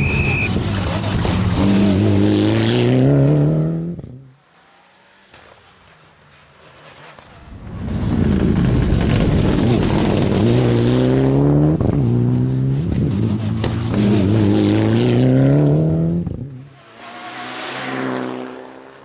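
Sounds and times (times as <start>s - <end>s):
car engine accelerating hard: 0.0s - 5.3s, 6.7s - 19.0s.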